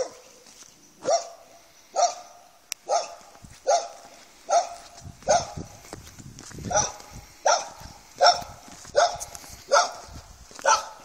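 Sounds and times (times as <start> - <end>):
dog barking: 0.0 - 0.3, 1.0 - 5.7, 6.7 - 11.0.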